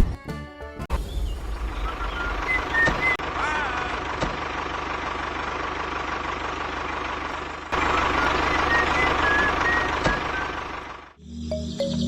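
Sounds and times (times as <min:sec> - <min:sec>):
truck engine running: 0:01.0 - 0:11.2.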